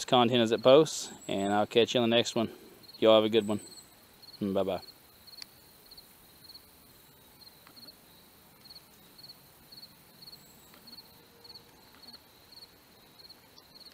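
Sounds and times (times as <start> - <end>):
cricket chirping: 0.0 - 13.9.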